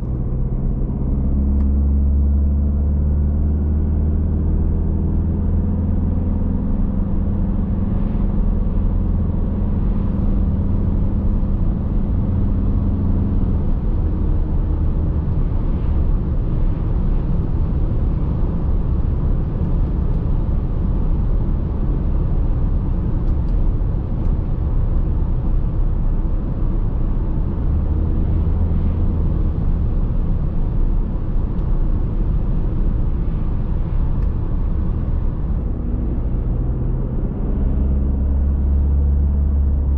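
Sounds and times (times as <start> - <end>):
diesel engine drone: 0.0 - 39.9
tyre and road noise: 4.0 - 39.9.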